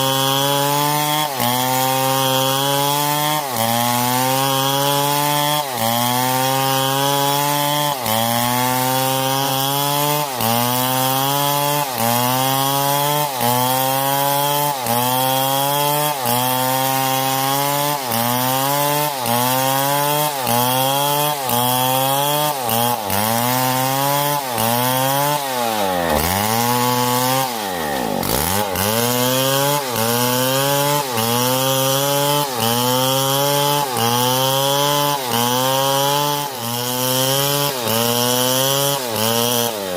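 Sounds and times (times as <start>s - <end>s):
chainsaw running hard: 0.0s - 39.9s.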